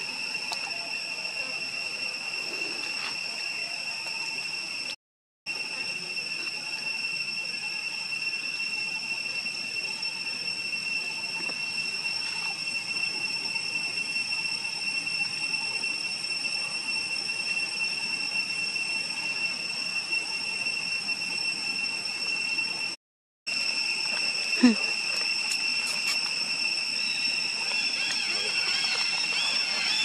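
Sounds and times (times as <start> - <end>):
insects droning high whine: 0.0 - 30.0.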